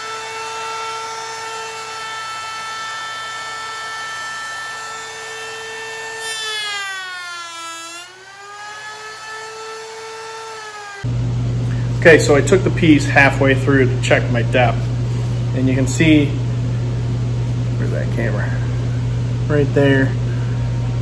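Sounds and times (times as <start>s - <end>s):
router high whine: 0.0s - 21.0s.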